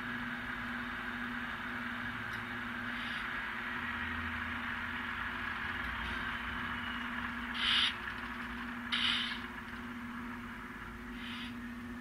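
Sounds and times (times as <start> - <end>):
model diesel engine idling hum: 0.0 - 12.0.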